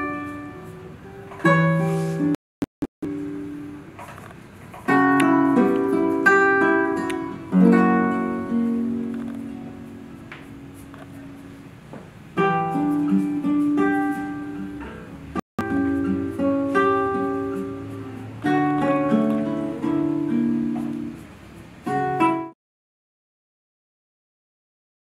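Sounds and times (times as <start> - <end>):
classical guitar played slowly: 0.0 - 2.4, 3.1 - 22.6.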